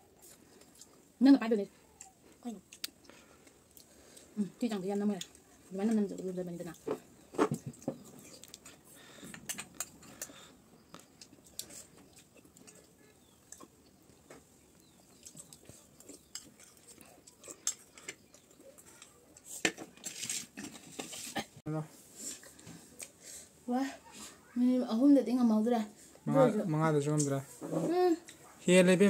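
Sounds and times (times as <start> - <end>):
faint chewing: 0.0 - 21.5, 22.2 - 24.6.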